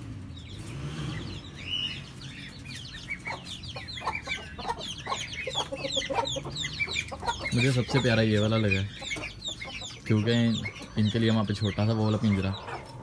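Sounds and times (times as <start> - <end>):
chicks peeping: 0.0 - 13.0
chickens clucking: 0.4 - 13.0.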